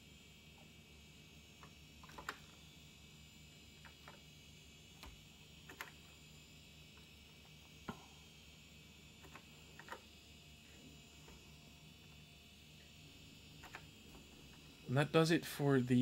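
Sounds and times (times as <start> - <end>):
faint electronic hum: 0.0 - 16.0.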